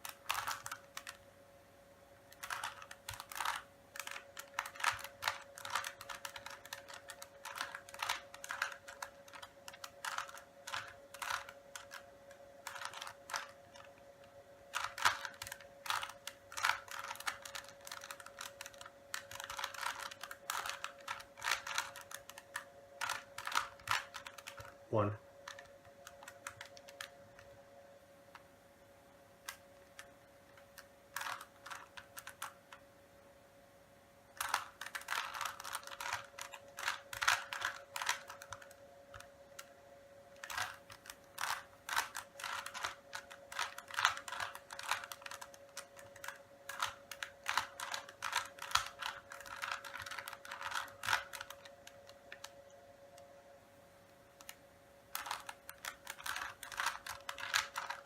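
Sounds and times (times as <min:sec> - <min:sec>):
puzzle cube layers clicking: 0:00.0 - 0:01.2, 0:02.3 - 0:14.0, 0:14.7 - 0:27.5, 0:29.4 - 0:32.8, 0:34.4 - 0:39.7, 0:40.4 - 0:52.6, 0:54.4 - 0:58.0.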